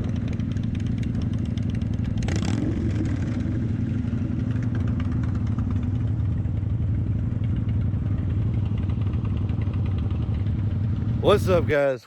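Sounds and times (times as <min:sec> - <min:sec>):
motorcycle engine idling: 0:00.0 - 0:11.7.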